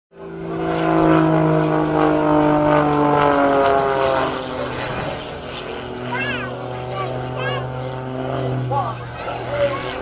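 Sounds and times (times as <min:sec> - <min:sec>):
propeller plane engine droning: 0:00.1 - 0:10.0.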